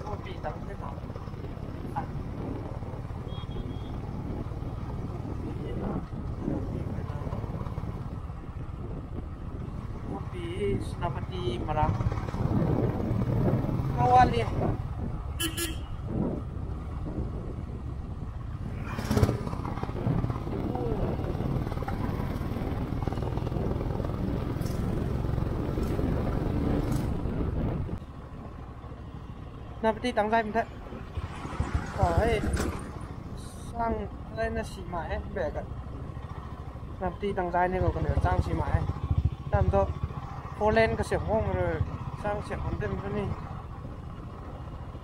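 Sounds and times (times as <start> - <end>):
motorcycle engine rumbling: 0.0 - 45.0
wind noise on microphone: 0.0 - 45.0.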